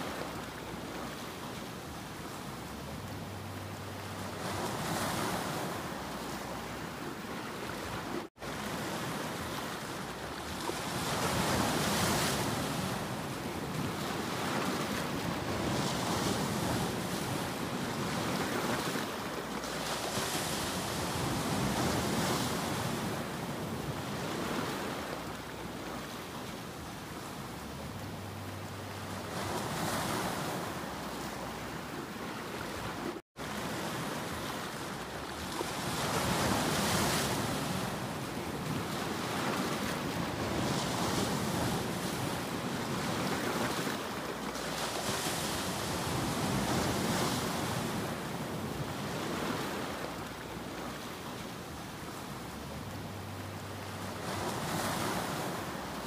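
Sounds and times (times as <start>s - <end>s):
waves breaking over rocks: 4.3s - 27.4s, 29.2s - 53.0s, 53.8s - 56.0s.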